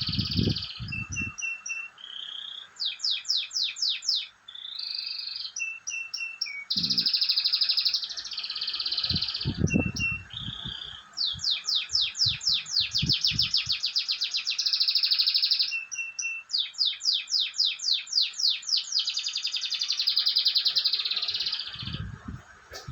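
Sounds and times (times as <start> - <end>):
canary singing trills: 0.0 - 22.9.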